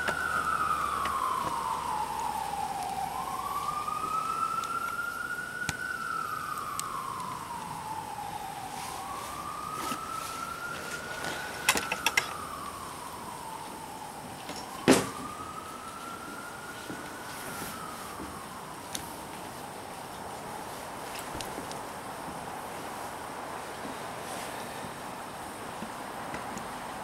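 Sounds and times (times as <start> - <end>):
siren wailing: 0.0 - 22.3.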